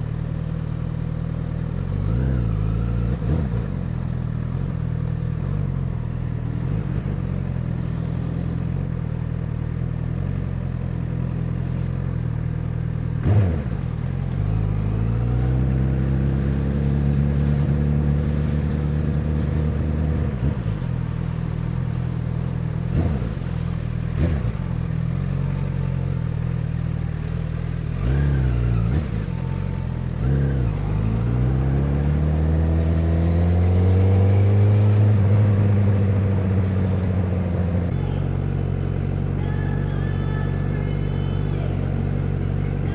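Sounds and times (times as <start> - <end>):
motorcycle engine revving through gears: 0.0 - 39.6.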